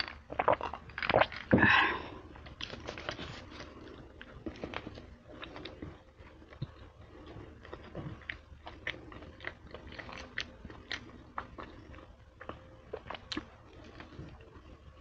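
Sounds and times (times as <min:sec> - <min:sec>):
wet chewing clicks: 0:02.4 - 0:14.7.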